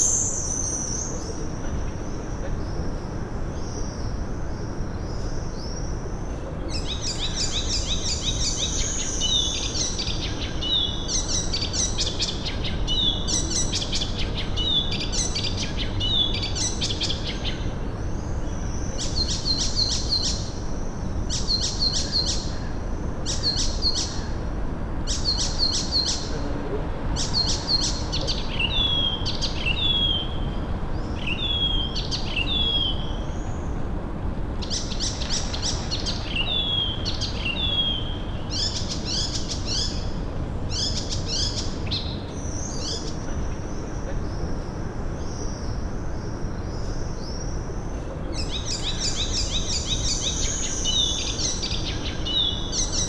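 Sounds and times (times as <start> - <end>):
low background noise: 0.0 - 53.0.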